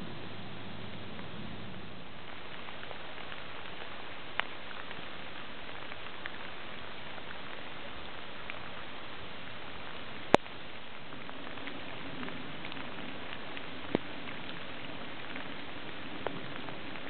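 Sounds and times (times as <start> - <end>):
rain pattering on leaves and water: 0.0 - 17.0.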